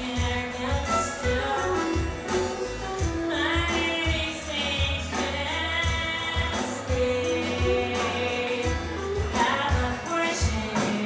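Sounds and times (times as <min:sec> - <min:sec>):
acoustic guitar: 0:00.0 - 0:11.0
drums: 0:00.0 - 0:11.0
electric guitar: 0:00.0 - 0:11.0
tambourine: 0:00.0 - 0:11.0
woman singing: 0:00.0 - 0:11.0.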